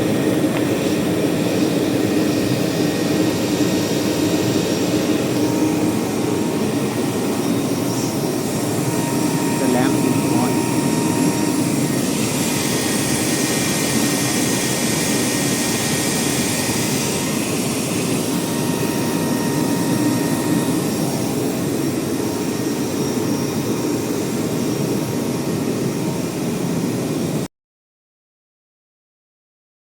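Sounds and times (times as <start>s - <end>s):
blower rushing air: 0.0s - 27.5s
faint steady whines: 0.0s - 27.5s.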